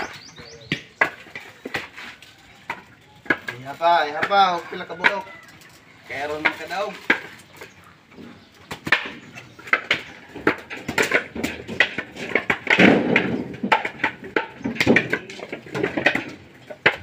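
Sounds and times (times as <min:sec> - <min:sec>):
coconuts knocking together: 0:00.0 - 0:17.0.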